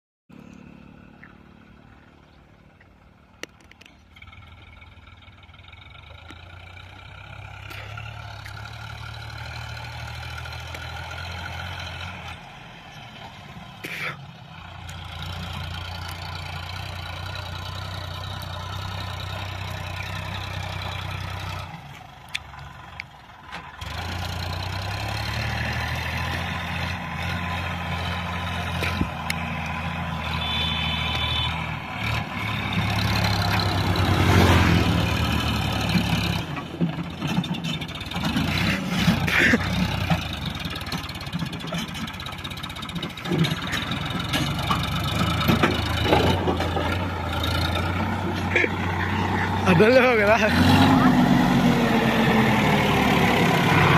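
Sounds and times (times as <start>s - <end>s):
tractor diesel engine running: 0.3s - 53.9s.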